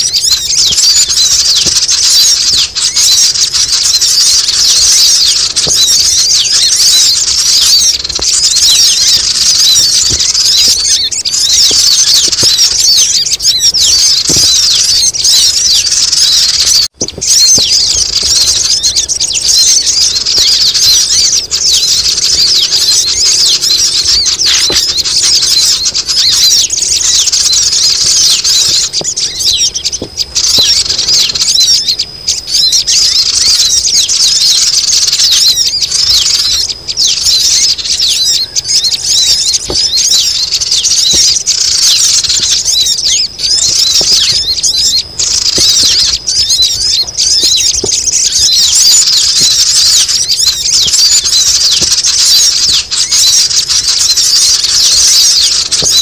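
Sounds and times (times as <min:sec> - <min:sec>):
chorus of squeaky bird calls: 0:00.0 - 0:56.0.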